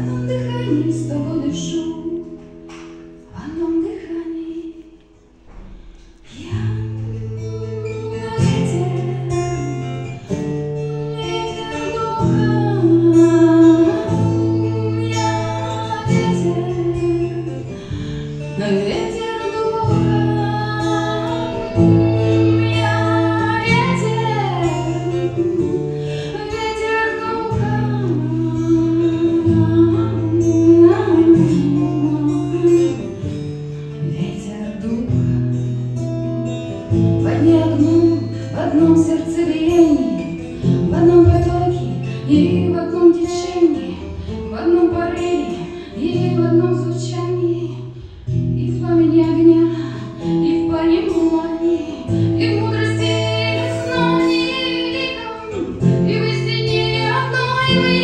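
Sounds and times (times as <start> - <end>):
strummed acoustic guitar: 0.0 - 4.1, 5.2 - 58.0
woman singing: 0.0 - 5.1, 6.2 - 35.6, 36.4 - 58.0.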